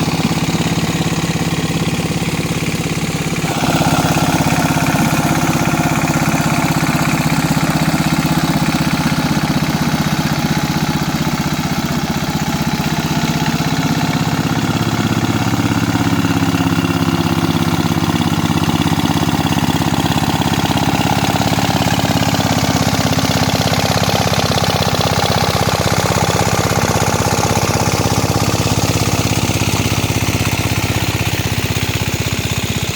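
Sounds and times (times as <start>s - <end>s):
mini tractor engine running: 0.0s - 32.9s.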